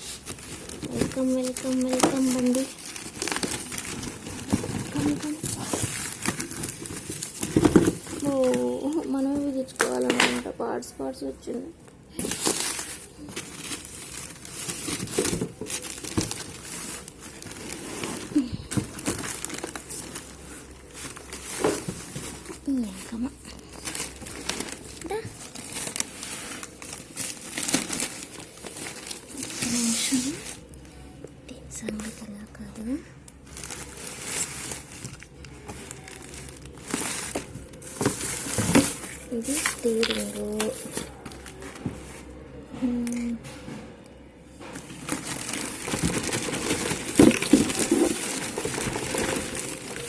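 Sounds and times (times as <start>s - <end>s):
packaging crinkling and rustling: 0.0s - 10.6s, 12.1s - 31.1s, 32.8s - 43.0s, 44.6s - 50.0s.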